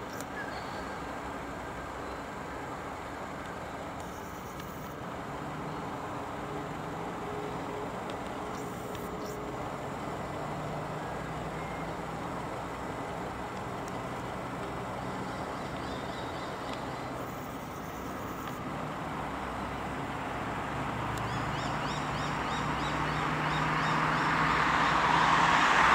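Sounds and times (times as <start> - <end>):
road traffic: 0.0 - 25.9
vehicle approaching: 0.0 - 25.9.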